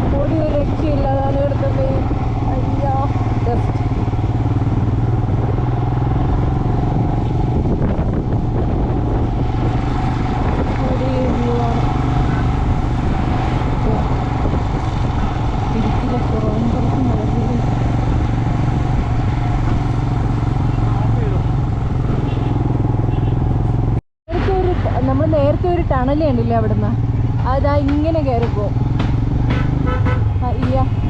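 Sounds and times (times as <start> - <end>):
motorcycle engine running: 0.0 - 24.0, 24.7 - 31.0
wind and road noise: 0.0 - 31.0.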